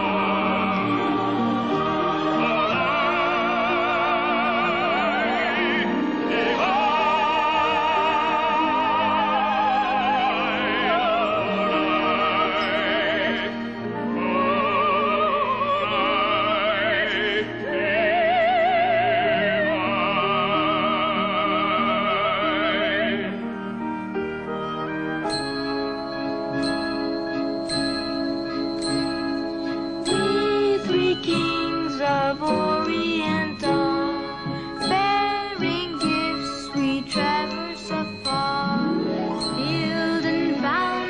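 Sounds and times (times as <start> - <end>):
instrumental accompaniment: 0.0 - 41.0
operatic singing with vibrato: 0.0 - 41.0.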